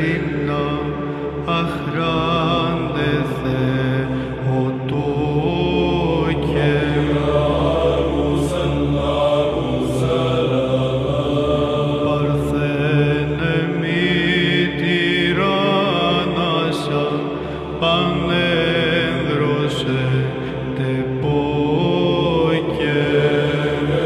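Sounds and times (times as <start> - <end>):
chanted hymn in melismatic lines: 0.0 - 24.0
low held vocal drone: 0.0 - 24.0.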